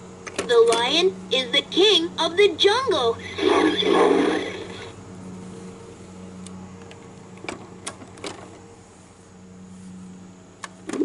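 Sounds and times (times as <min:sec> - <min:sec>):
low hum: 0:01.1 - 0:10.2.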